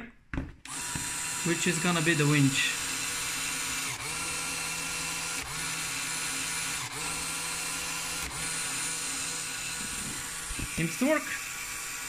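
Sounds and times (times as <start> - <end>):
electric motor whirring gears: 0.6 - 12.0.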